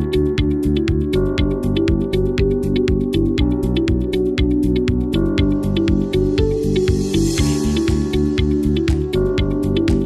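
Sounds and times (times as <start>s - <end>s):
electronic music with fast beat: 0.0s - 10.0s.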